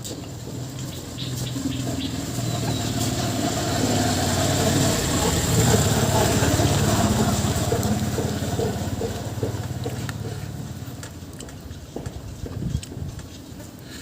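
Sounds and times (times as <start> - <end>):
vehicle engine passing: 0.4 - 12.6.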